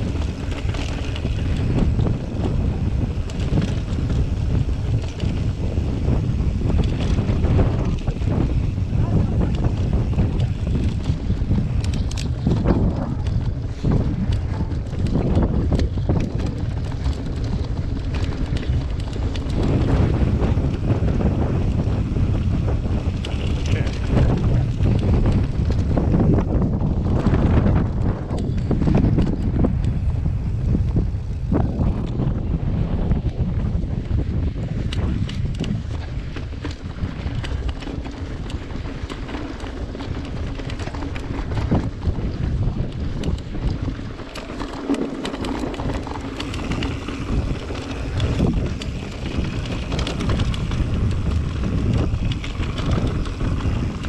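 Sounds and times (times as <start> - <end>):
bike knocks and rattles: 0.0 - 54.0
wind buffeting microphone: 0.0 - 54.0.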